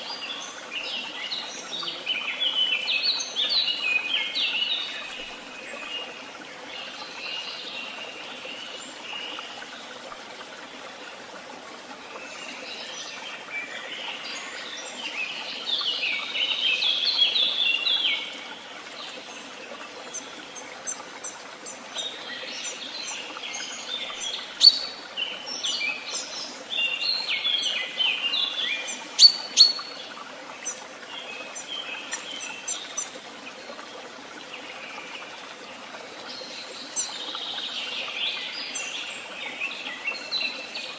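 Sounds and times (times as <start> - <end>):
songbirds singing and chirping: 0.0 - 11.1, 12.0 - 40.9.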